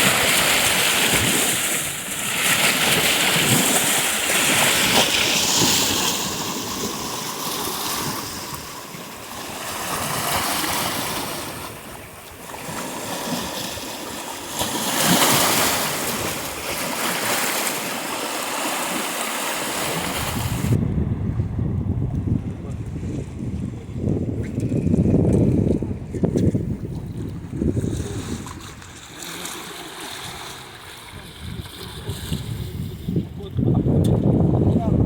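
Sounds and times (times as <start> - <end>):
surf breaking on shore: 0.0 - 20.9, 25.0 - 33.5.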